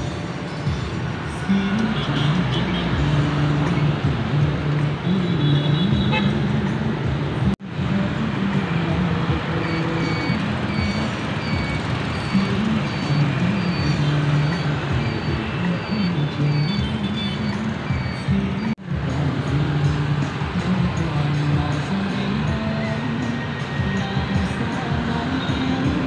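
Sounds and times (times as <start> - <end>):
motorbikes passing: 0.0 - 26.0
truck passing: 0.0 - 26.0.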